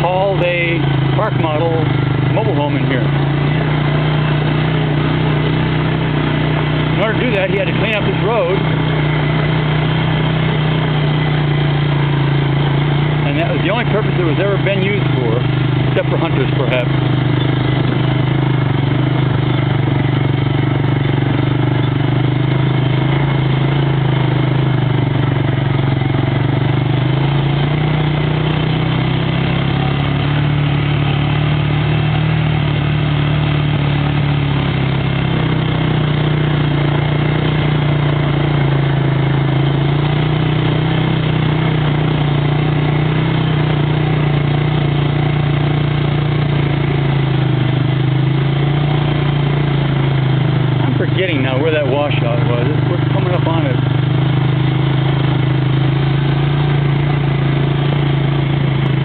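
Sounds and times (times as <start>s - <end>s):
atv engine droning: 0.0s - 59.0s.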